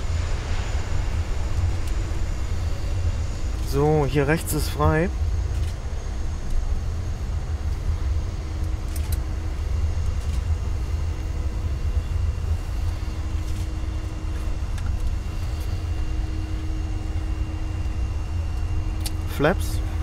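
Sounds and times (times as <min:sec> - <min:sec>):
faint even hum: 0:00.0 - 0:20.0
jet taxiing low rumble: 0:00.0 - 0:20.0.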